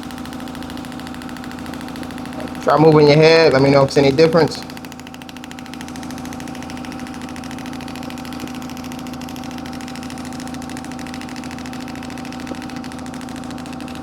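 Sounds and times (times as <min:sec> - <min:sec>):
rapid clicking pulses: 0:00.0 - 0:14.0
steady hum: 0:00.0 - 0:14.0.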